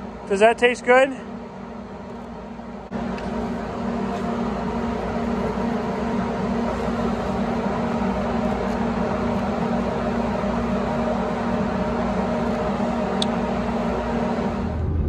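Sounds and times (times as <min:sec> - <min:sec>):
noisy drone: 0:00.0 - 0:15.0
motor humming: 0:01.2 - 0:15.0.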